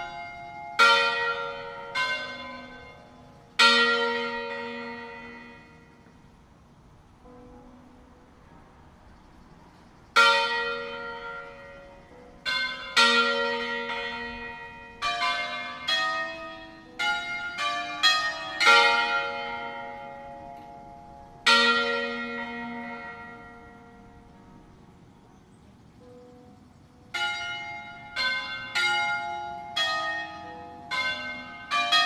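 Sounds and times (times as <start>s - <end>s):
church bells ringing: 0.0s - 6.4s, 7.2s - 9.4s, 10.1s - 32.0s.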